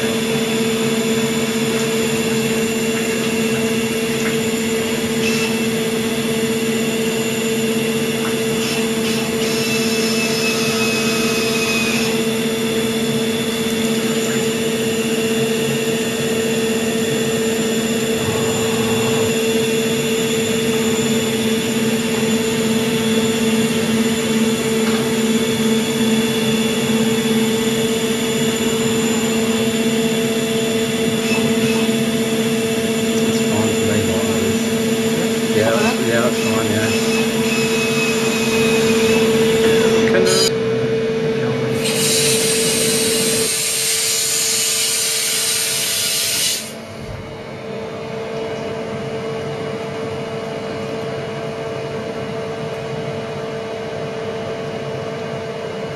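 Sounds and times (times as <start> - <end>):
machine hum with whine: 0.0 - 55.9.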